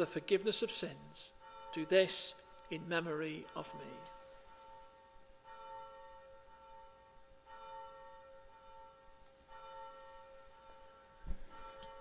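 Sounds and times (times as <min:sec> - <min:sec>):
faint bell ringing: 0:01.3 - 0:12.0.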